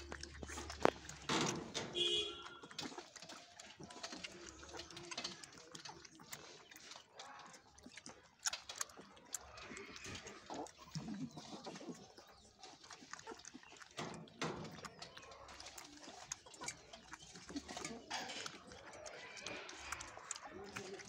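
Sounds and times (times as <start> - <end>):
puppy soft vocal sounds: 0.0 - 1.4, 2.6 - 21.0.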